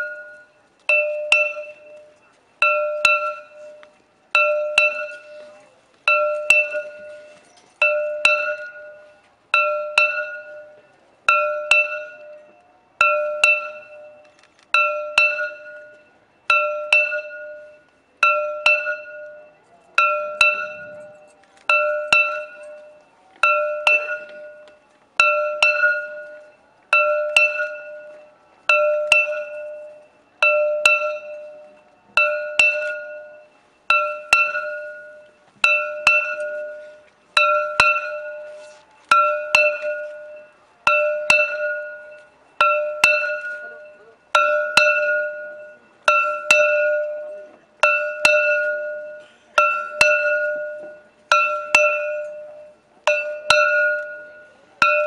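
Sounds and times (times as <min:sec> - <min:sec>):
bell ringing: 0:00.0 - 0:55.0.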